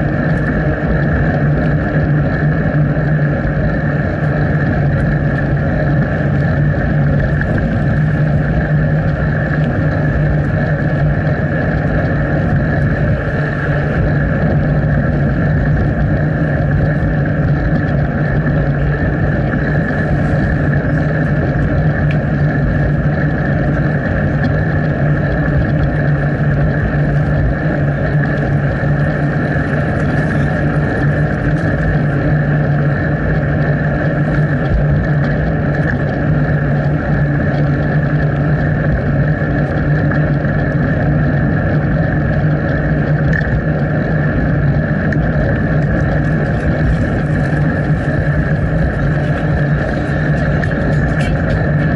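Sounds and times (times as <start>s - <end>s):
bicycle rolling noise: 0.0s - 51.9s
low hum: 0.0s - 51.9s
rushing wind: 0.0s - 51.9s.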